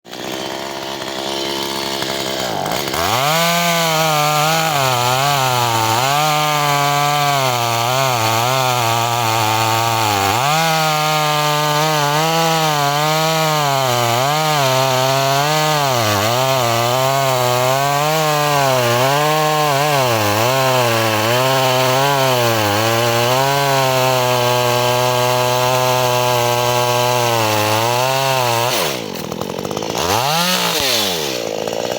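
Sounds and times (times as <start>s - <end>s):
chainsaw cutting wood: 0.0s - 31.9s.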